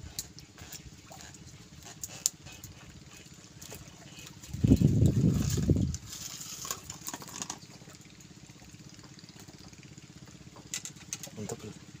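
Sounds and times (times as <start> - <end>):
clicks and rustles handling fish: 0.0 - 11.9.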